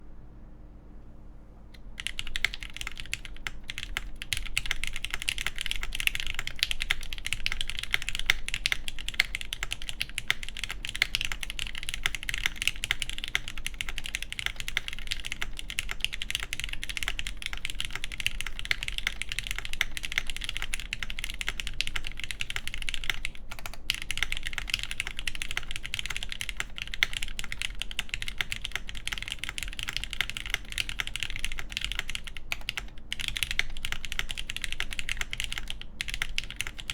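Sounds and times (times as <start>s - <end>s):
mechanical keyboard typing: 1.8s - 36.9s.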